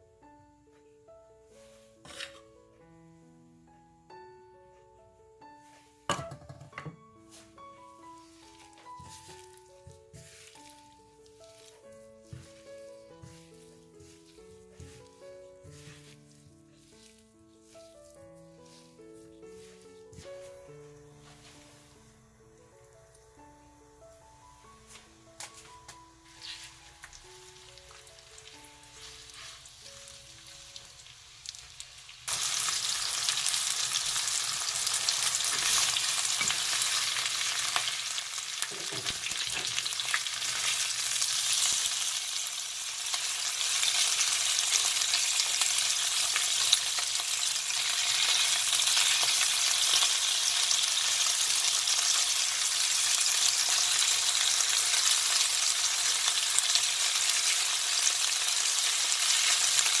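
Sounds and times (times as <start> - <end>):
food sizzling in a pan: 1.4 - 2.6, 7.0 - 22.0, 25.5 - 60.0.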